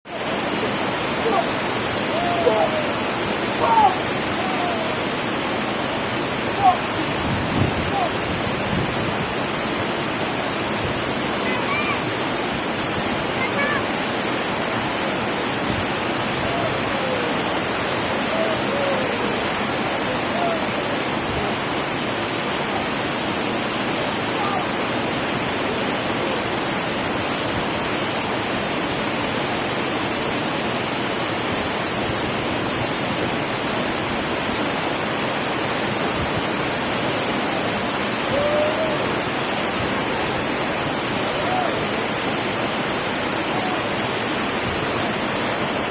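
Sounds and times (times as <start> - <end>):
waterfall pouring: 0.1 - 45.9.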